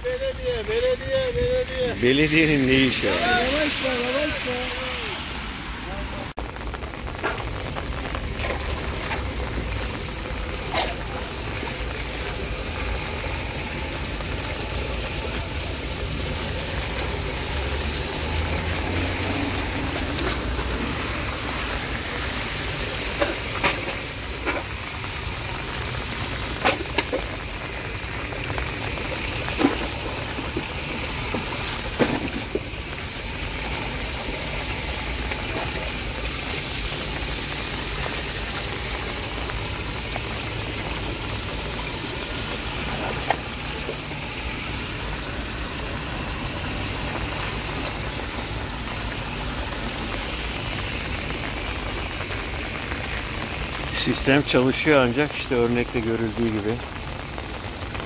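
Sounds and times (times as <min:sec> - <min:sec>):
rainwater rushing through drain grate: 0:00.0 - 0:58.0.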